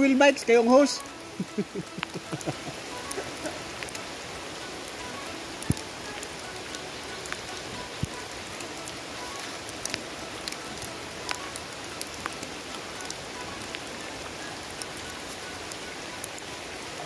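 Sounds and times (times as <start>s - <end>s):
sharp raindrop hits ticking: 0.0s - 17.0s
steady rain falling: 0.0s - 17.0s.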